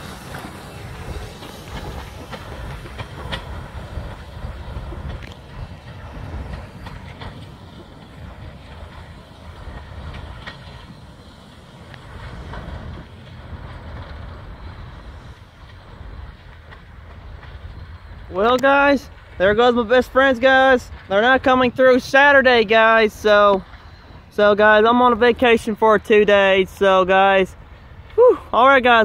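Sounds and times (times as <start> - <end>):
train cars rumbling: 0.0 - 29.0
wheels clicking over rail joints: 0.0 - 29.0.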